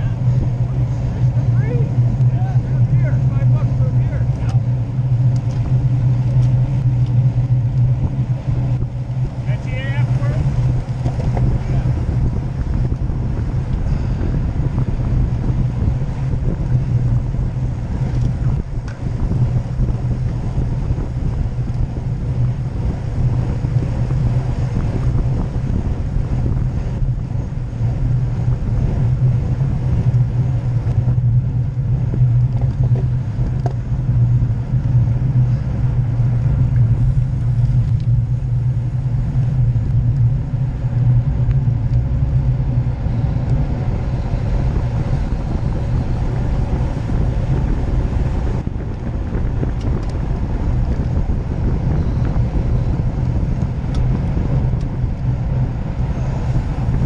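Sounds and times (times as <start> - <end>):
wind and road rumble: 0.0 - 57.0.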